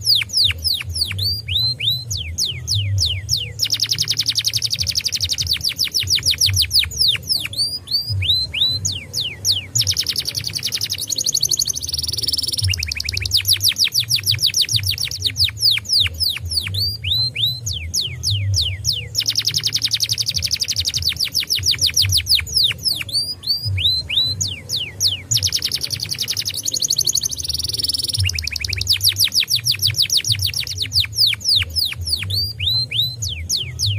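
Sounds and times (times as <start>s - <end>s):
canary singing: 0.0s - 33.9s.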